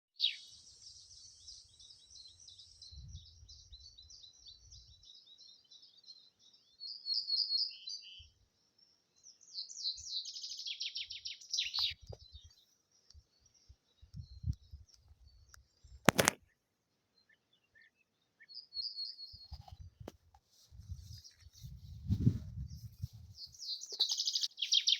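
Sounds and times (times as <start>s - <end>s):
songbirds twittering: 0.2s - 20.1s, 20.9s - 24.9s.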